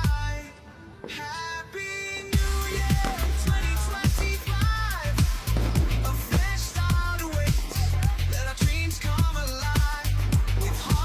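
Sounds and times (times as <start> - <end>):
pop music with bass beat: 0.0 - 11.0.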